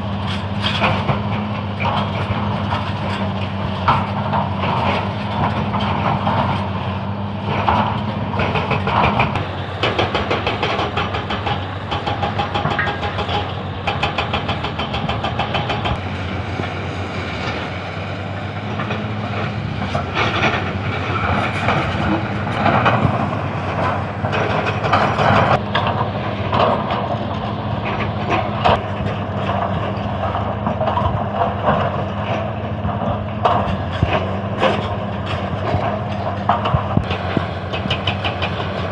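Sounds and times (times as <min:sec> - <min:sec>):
diesel engine running: 0:00.0 - 0:38.9
metallic clanking and rattling: 0:00.1 - 0:38.9.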